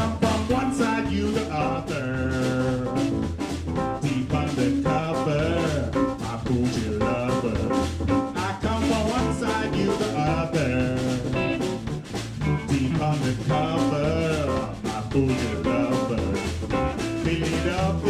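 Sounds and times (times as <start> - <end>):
electric blues band playing: 0.0 - 18.0.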